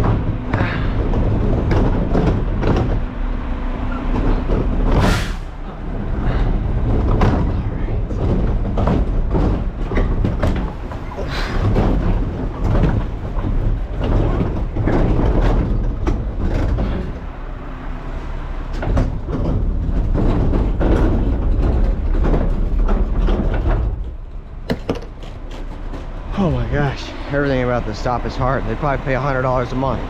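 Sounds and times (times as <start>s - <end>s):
garbage truck rumbling: 0.0s - 30.0s
metal clanks and rattles: 0.0s - 30.0s.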